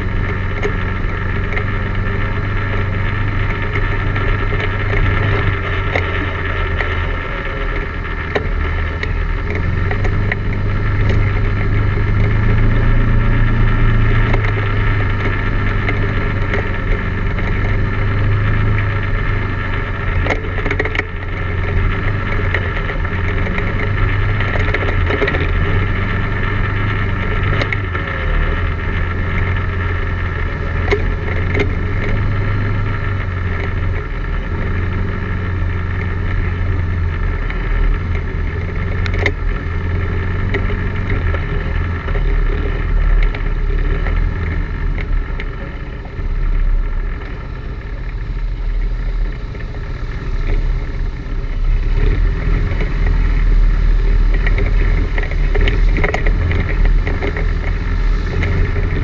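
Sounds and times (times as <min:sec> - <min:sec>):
atv engine running: 0:00.0 - 0:59.0
sharp knocks over rough trail: 0:00.0 - 0:59.0.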